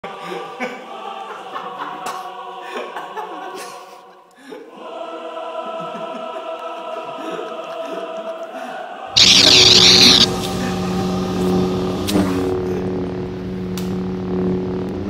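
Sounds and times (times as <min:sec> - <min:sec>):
choir holding long chords: 0:00.0 - 0:04.0, 0:04.6 - 0:12.7.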